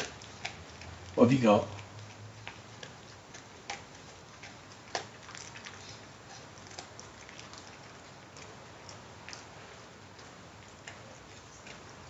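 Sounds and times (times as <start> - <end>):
dog chewing with crunches: 0.0 - 12.0.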